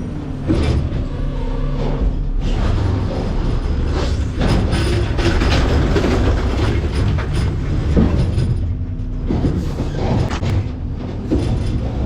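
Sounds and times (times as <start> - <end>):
garbage truck engine rumble: 0.0 - 12.0
metal creaks squeals and clanks: 0.0 - 12.0.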